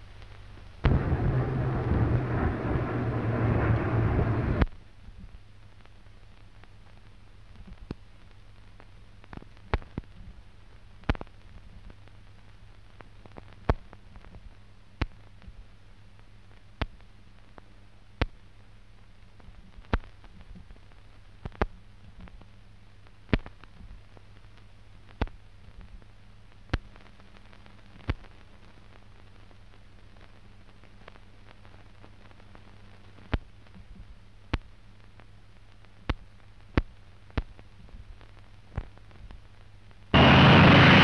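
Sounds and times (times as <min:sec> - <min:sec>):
film soundtrack hum and hiss: 0:00.0 - 0:41.0.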